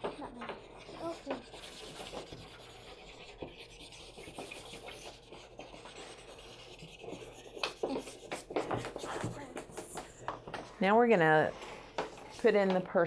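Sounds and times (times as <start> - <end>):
pastel scratching on paper: 0.0 - 10.2, 11.9 - 13.0.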